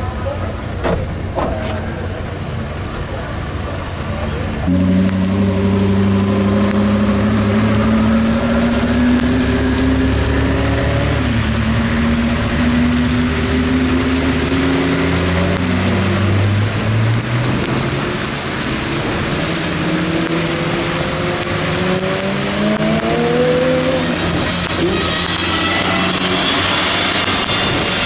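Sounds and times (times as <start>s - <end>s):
car engines passing: 0.0s - 28.0s
rain: 0.0s - 28.0s
car accelerating away: 0.1s - 28.0s.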